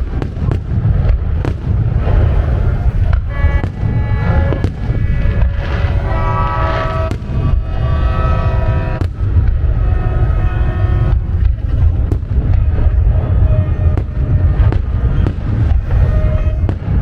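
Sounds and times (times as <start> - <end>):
firework cracks: 0.0 - 16.0
firework booms: 0.0 - 17.0
steady multi-pitch tone: 2.0 - 16.7.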